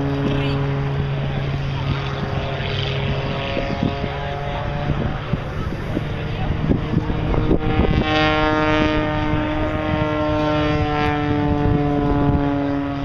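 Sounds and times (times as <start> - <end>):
propeller airplane engine drone: 0.0 - 13.0
wind rumble on microphone: 0.0 - 13.0.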